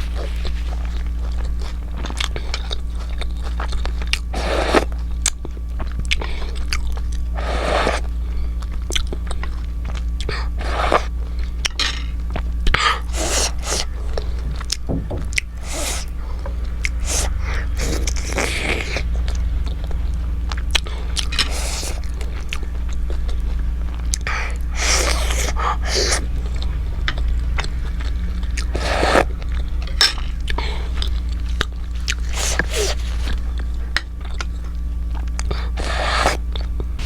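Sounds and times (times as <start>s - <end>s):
steady low hum: 0.0s - 37.0s
slurping: 0.1s - 5.0s, 7.4s - 8.2s, 8.9s - 11.3s, 12.6s - 34.6s, 35.3s - 36.8s
wet chewing and mouth smacks: 0.1s - 37.0s.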